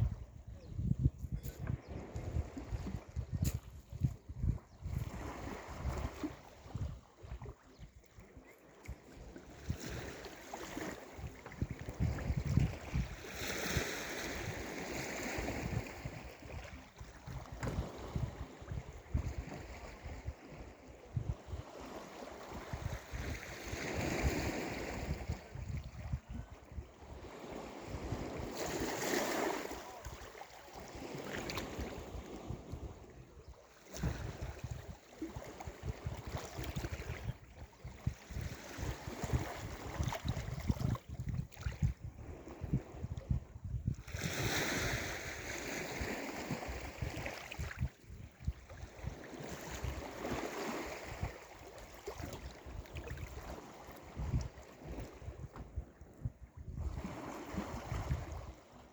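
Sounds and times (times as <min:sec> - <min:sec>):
wind buffeting microphone: 0:00.0 - 0:08.0, 0:09.2 - 0:51.4, 0:52.1 - 0:58.6
sea waves breaking on shore: 0:04.9 - 0:43.1, 0:44.0 - 0:55.9, 0:56.8 - 0:58.9.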